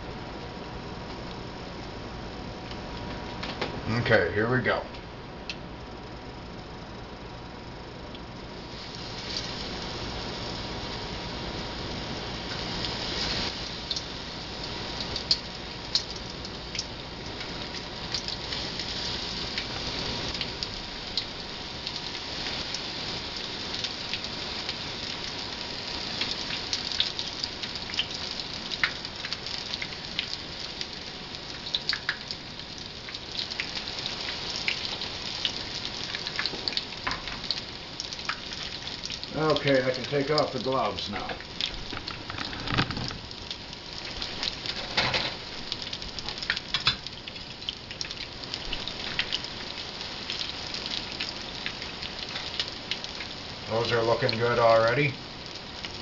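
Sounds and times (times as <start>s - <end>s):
chicken deep-frying in hot oil: 0.0s - 56.0s.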